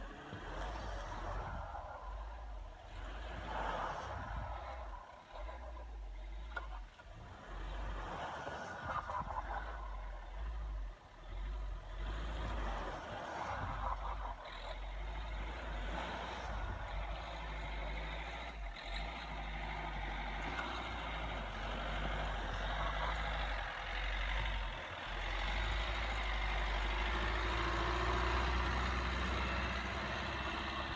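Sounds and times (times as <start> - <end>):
car engines running: 0.0 - 30.9.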